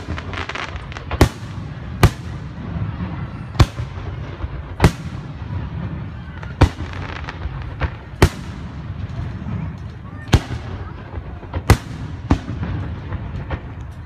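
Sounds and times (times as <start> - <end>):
firework bangs: 0.0 - 14.0.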